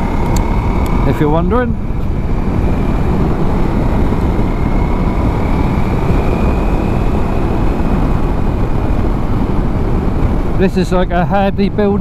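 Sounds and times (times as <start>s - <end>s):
faint high whine: 0.0s - 12.0s
motorcycle engine cruising: 0.0s - 12.0s
wind rush on microphone: 0.0s - 12.0s.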